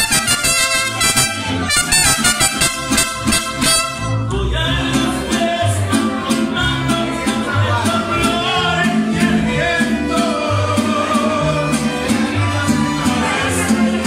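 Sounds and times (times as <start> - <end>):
mariachi band playing: 0.0 - 14.0
plucked bass line: 0.0 - 14.0
strummed guitars: 0.0 - 14.0.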